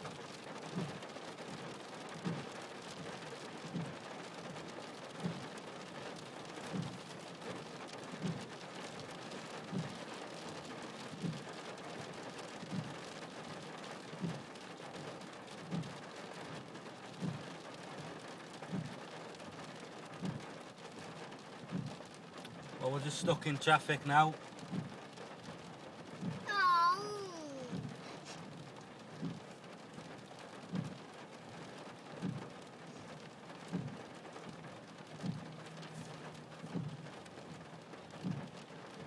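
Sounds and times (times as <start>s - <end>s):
rain on car roof: 0.0s - 39.0s.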